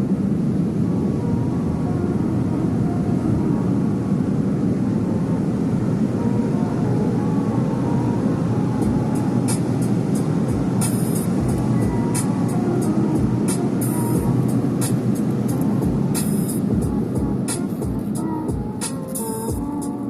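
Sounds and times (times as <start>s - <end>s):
car wash equipment rumbling: 0.0s - 20.0s.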